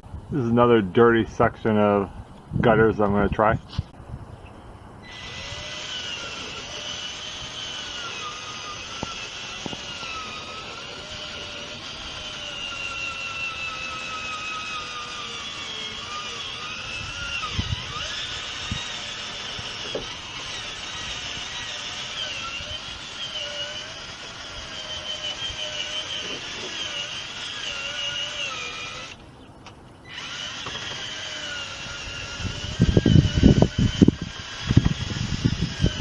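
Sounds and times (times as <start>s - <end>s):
drill motor whine: 5.0s - 29.2s, 30.0s - 36.0s.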